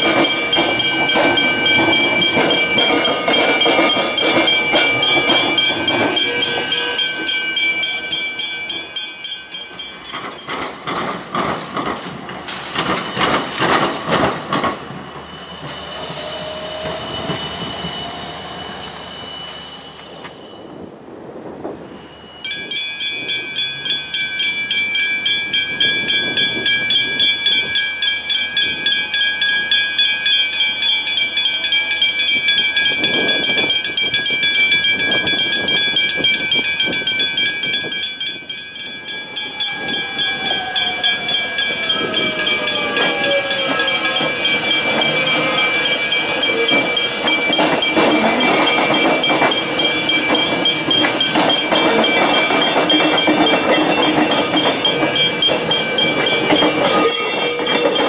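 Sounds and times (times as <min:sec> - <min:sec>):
level crossing bells ringing: 0:00.0 - 0:15.8, 0:22.4 - 0:58.0
electric train whine: 0:00.0 - 0:58.0
train wheels on rails: 0:00.0 - 0:58.0.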